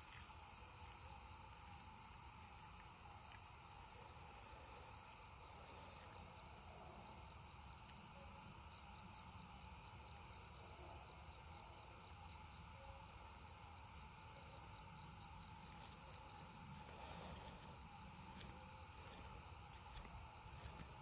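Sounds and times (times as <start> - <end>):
crickets trilling: 0.0 - 21.0
low insect drone: 0.0 - 21.0.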